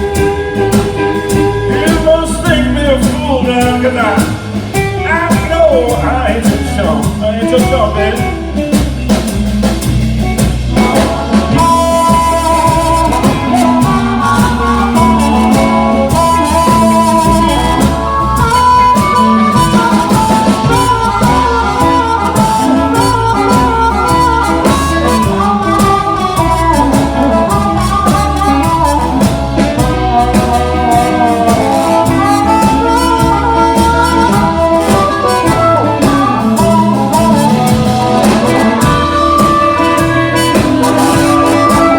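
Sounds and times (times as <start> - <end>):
blues harmonica solo: 0.0 - 41.9
guitar accompaniment: 0.0 - 41.9
steady beat: 0.0 - 41.9.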